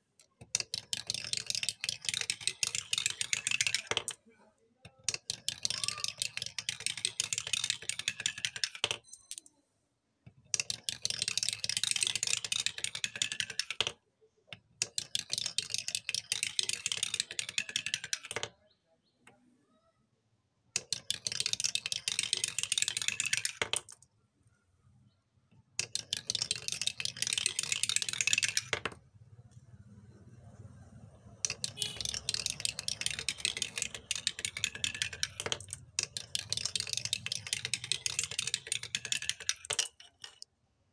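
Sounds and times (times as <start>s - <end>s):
marbles clicking down wooden run: 0.2s - 4.2s, 4.9s - 9.4s, 10.3s - 18.6s, 20.7s - 24.1s, 25.6s - 40.5s.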